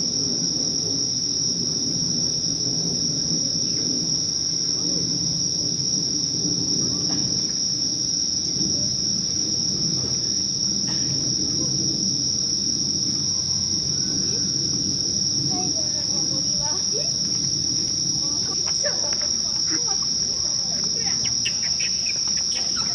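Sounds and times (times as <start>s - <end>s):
night insects chorus: 0.0s - 22.9s
low background noise: 2.7s - 22.9s.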